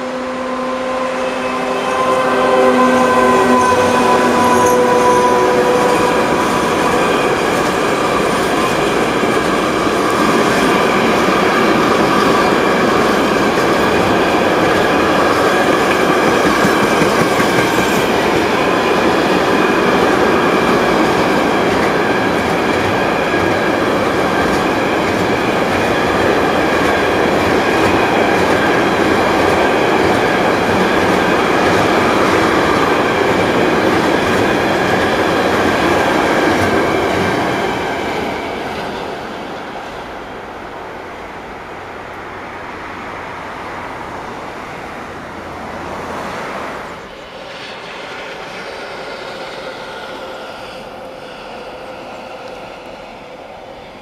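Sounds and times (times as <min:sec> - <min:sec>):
electric locomotive hum: 0:00.0 - 0:54.0.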